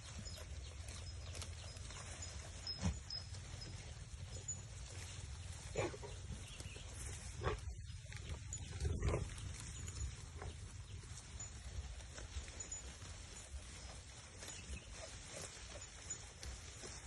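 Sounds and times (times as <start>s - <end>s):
goats calling: 0.0s - 17.0s.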